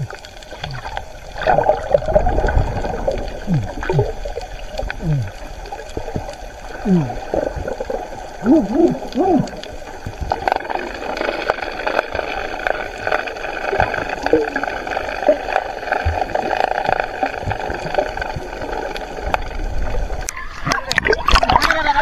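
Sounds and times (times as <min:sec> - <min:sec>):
muffled underwater gurgling: 0:00.0 - 0:22.0.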